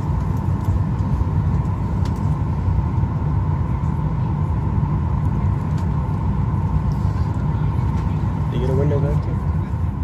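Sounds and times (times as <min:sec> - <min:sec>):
airliner cabin low rumble: 0:00.0 - 0:10.0
ventilation hiss and hum: 0:00.0 - 0:10.0.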